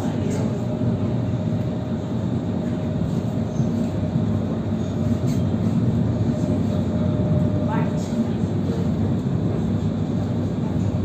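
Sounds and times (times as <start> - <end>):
tram rumble: 0.0 - 11.0.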